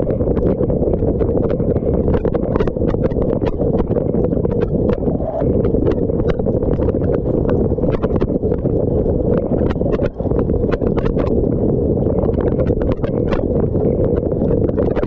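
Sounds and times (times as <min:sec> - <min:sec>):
muffled rush of water: 0:00.0 - 0:15.0.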